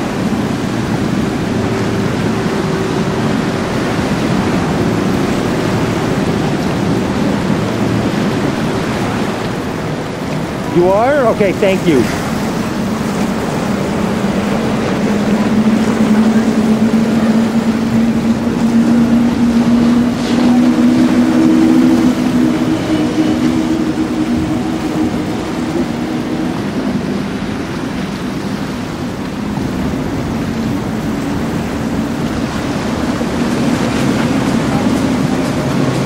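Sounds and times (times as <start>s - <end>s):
boat engines humming: 0.0s - 36.0s
water noise: 0.0s - 36.0s
wind: 0.0s - 36.0s.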